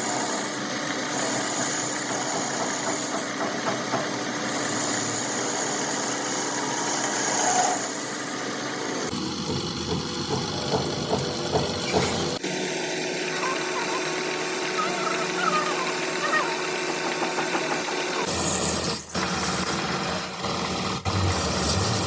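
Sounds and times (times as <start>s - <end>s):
rough machining noise: 0.0s - 22.0s
workshop machinery whine: 0.0s - 22.0s.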